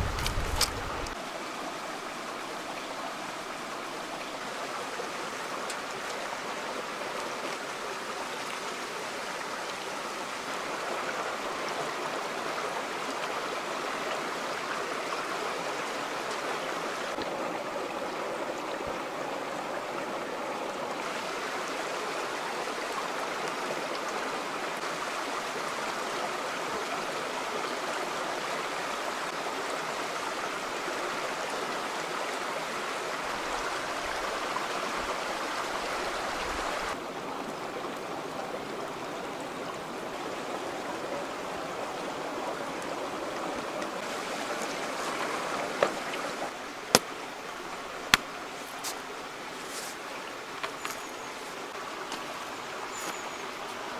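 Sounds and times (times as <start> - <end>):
river rushing over rocks: 0.0 - 53.9.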